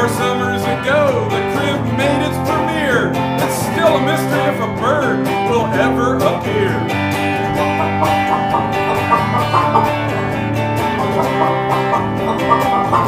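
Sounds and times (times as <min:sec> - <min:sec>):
bass line: 0:00.0 - 0:13.0
electric guitar picked quickly: 0:00.0 - 0:13.0.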